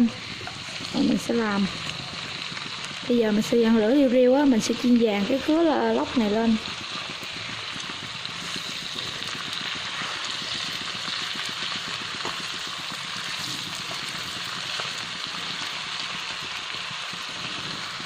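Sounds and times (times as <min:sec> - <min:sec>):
fish sizzling in hot oil: 0:00.0 - 0:18.0.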